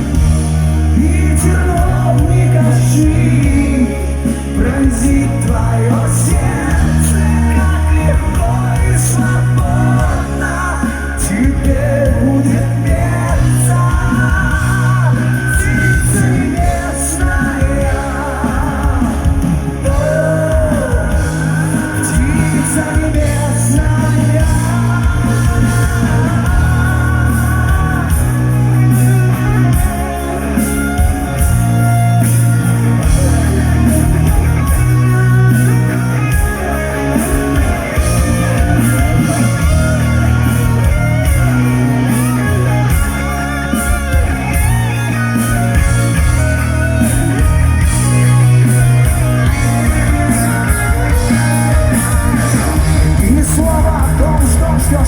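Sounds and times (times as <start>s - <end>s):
guitar melody: 0.0s - 55.0s
rock band playing: 0.0s - 55.0s.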